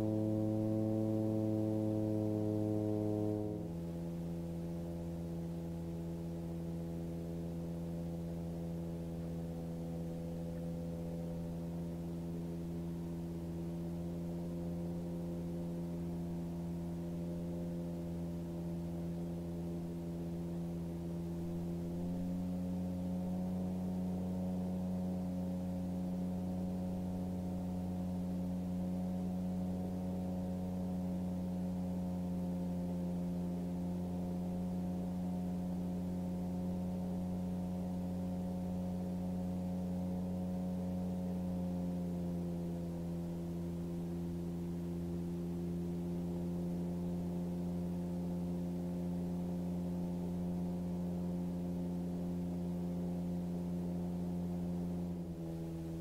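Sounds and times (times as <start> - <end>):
muffled aircraft engine droning: 0.0 - 56.0.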